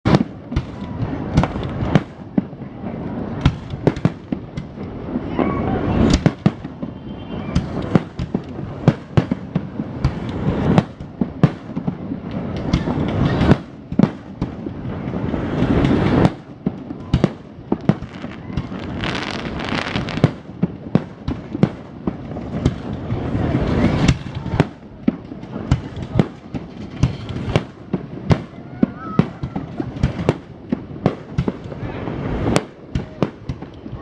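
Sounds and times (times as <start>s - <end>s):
fireworks bangs and booms: 0.0s - 34.0s.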